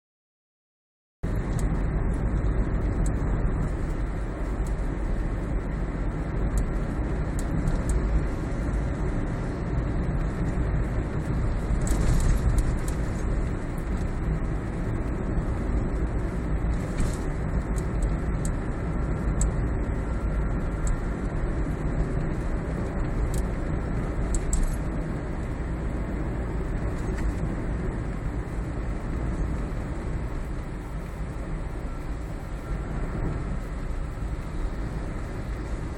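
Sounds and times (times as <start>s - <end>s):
car road rumble: 1.2s - 35.9s.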